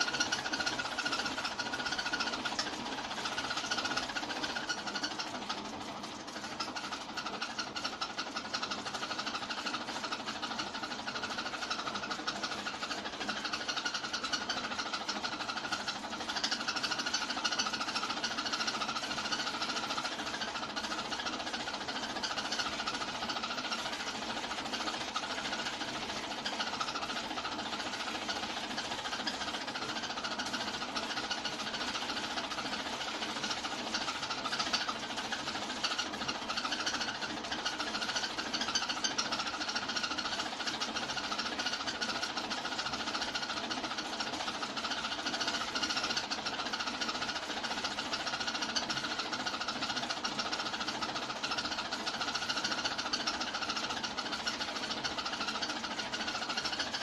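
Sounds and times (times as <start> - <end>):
film projector clattering: 0.0 - 57.0.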